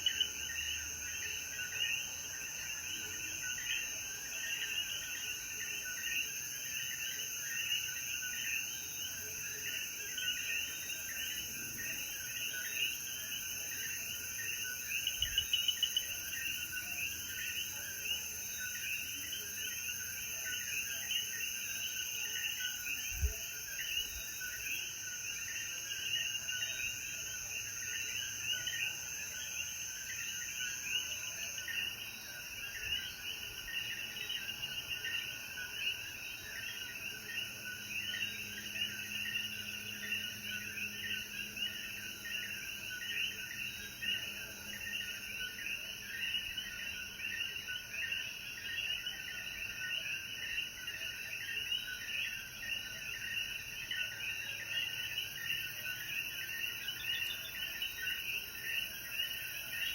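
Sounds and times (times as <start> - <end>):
frog chorus: 0.0 - 59.9
high insect drone: 0.1 - 59.9.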